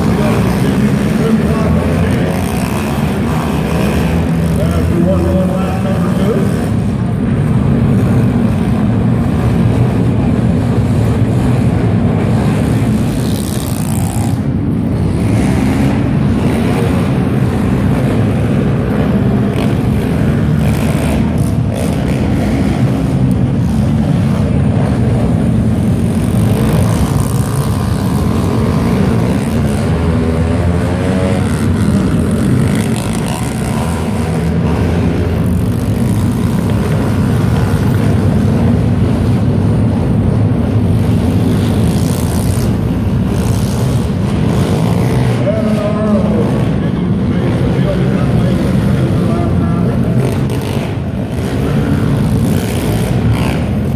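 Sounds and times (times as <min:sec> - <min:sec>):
pit bike engines revving: 0:00.0 - 0:53.9.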